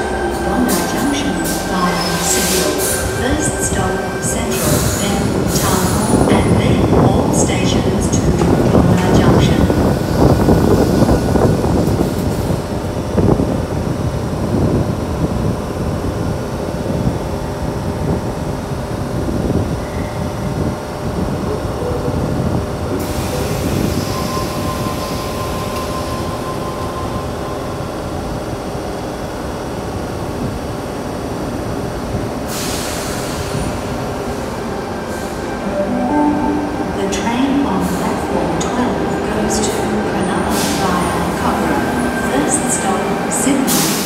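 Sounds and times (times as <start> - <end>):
electric train humming: 0.0 - 44.0.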